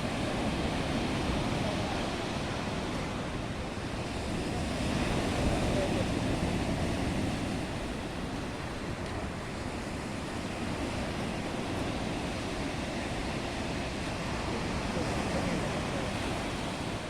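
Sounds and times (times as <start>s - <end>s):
waves breaking: 0.0s - 17.0s.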